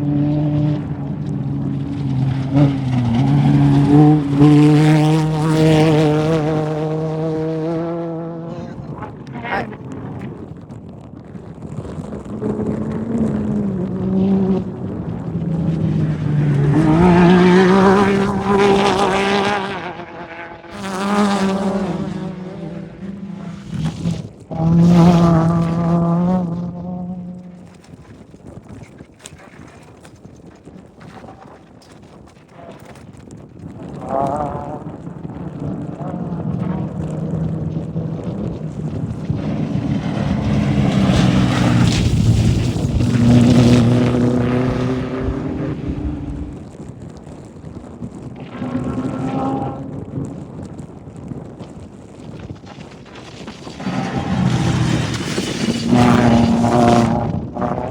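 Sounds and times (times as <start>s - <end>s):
off-road race vehicles passing: 0.0s - 27.8s, 32.4s - 33.0s, 33.6s - 52.1s, 53.1s - 57.9s.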